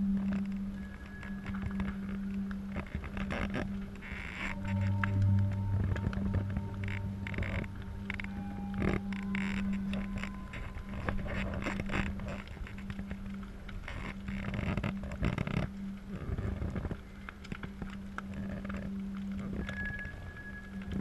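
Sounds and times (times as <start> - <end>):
steady low hum: 0.0 - 21.0
fire cracking and popping: 0.1 - 21.0.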